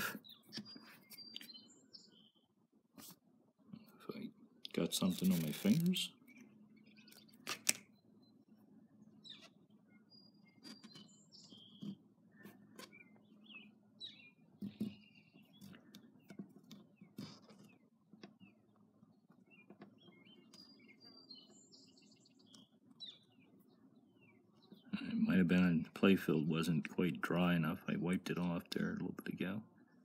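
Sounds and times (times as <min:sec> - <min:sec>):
faint bird chirps and tweets: 0:00.0 - 0:30.0
low steady hum: 0:00.0 - 0:30.0.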